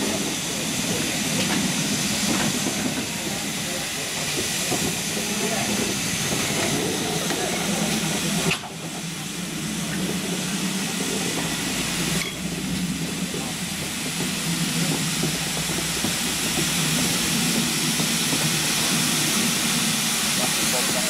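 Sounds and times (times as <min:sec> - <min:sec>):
steam hissing: 0:00.0 - 0:21.0
train rumble: 0:00.0 - 0:21.0.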